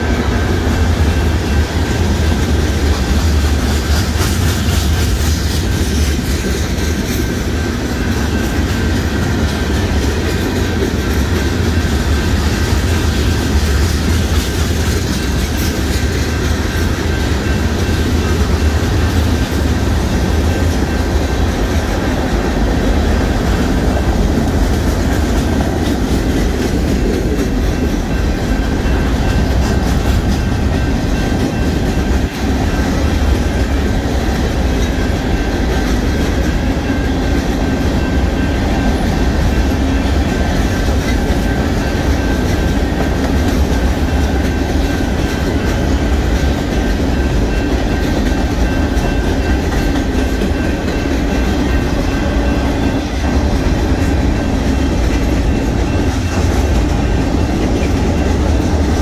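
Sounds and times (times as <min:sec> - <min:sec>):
freight train cars rumbling past: 0:00.0 - 0:59.0.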